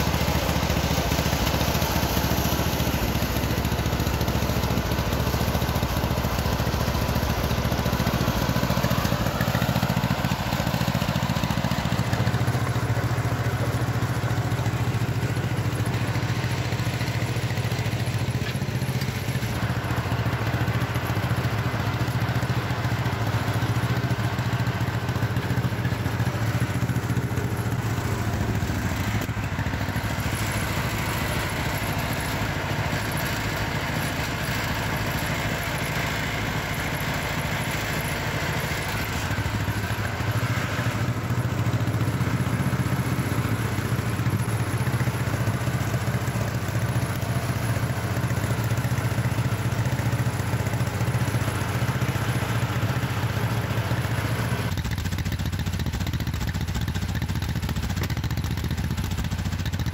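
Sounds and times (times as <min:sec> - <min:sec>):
crawler tractor engine running: 0:00.0 - 0:59.9.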